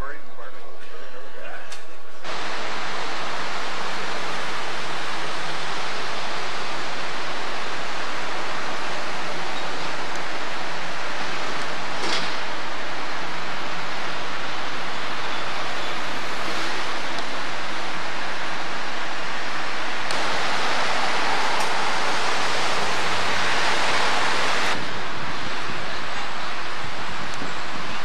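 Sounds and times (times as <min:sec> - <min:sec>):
loud rushing noise: 0:02.2 - 0:27.4.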